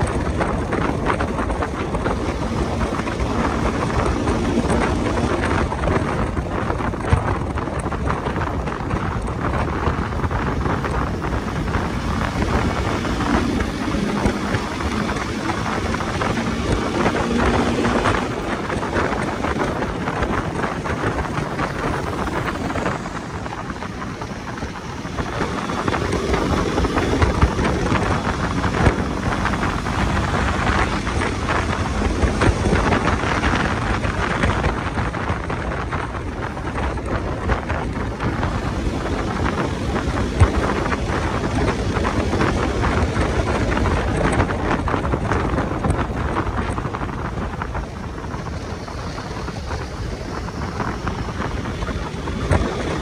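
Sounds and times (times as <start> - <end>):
motorcycle engine and road rumble: 0.0 - 53.0
wind buffeting microphone: 0.0 - 53.0.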